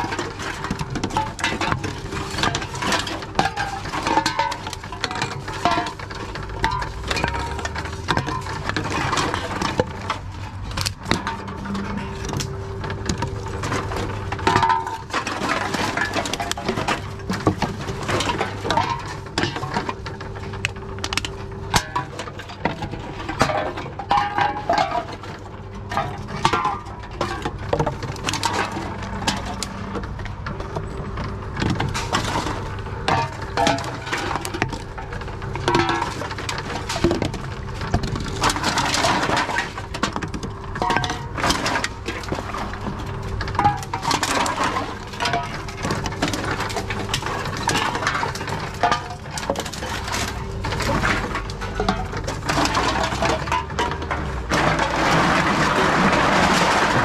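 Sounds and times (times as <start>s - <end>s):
containers clinking and crunching: 0.0s - 57.0s
machine hum: 0.0s - 57.0s.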